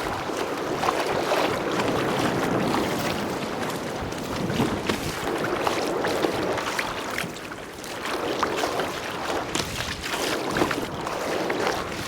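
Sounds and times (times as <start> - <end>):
water splashing against kayak: 0.0 - 12.0
wind on microphone: 0.0 - 12.0.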